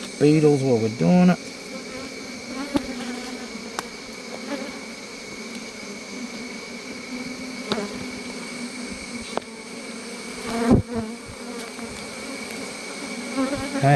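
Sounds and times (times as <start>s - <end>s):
bees buzzing: 0.0s - 13.9s.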